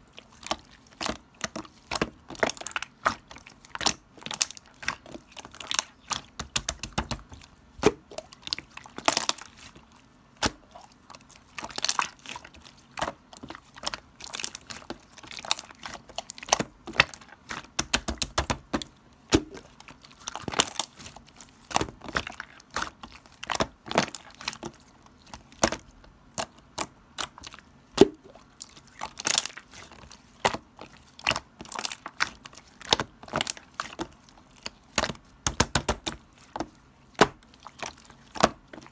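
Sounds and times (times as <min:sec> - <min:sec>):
slime squelching by hand: 0:00.0 - 0:38.9.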